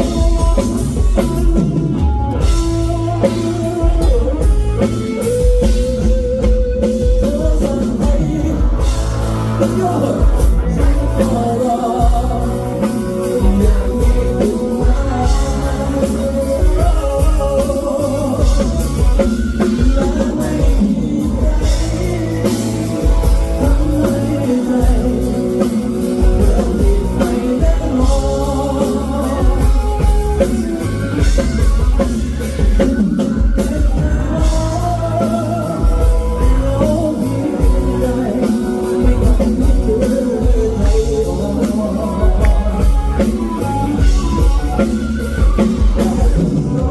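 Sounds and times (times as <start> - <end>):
pop-rock song with singer: 0.0 - 46.9.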